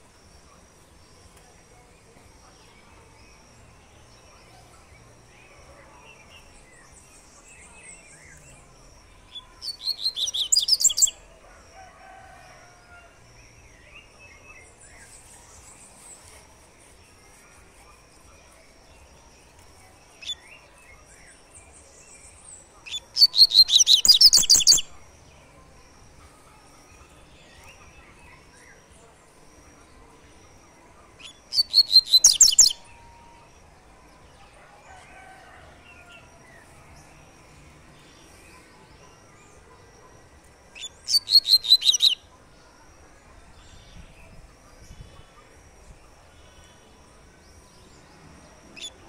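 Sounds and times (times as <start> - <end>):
faint bird chirps: 2.4 - 13.0, 13.8 - 25.1, 26.2 - 37.0, 37.8 - 49.0.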